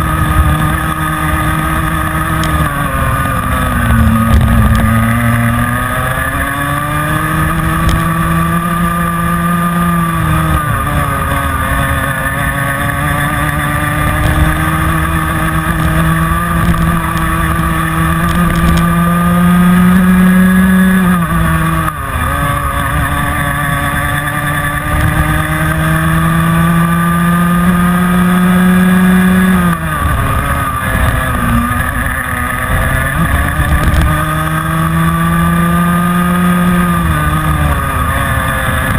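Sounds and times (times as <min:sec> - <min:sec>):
kart engine racing: 0:00.0 - 0:38.9.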